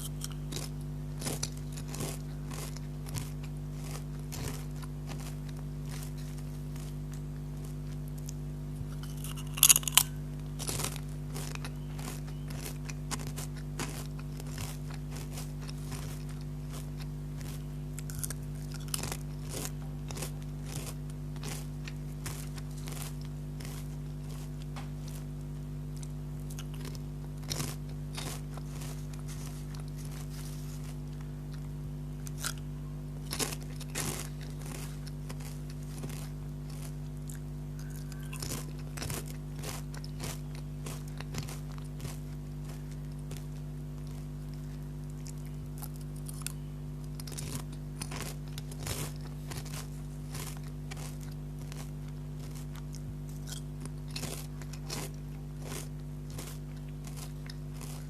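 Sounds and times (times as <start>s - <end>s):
chips being crunched: 0.0s - 25.3s, 26.0s - 32.6s, 33.3s - 44.7s, 45.3s - 58.0s
low hum: 0.0s - 58.0s.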